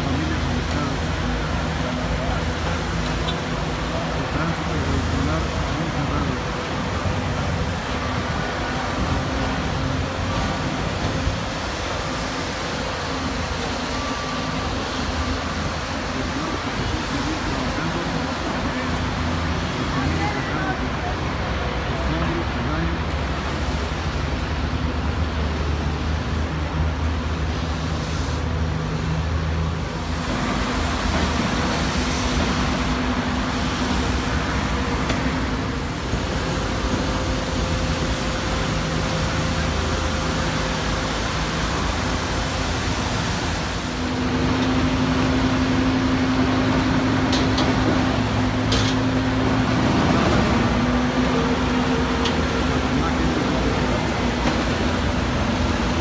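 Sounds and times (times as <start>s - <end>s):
heavy machinery engines droning: 0.0s - 56.0s
road traffic noise: 0.0s - 56.0s.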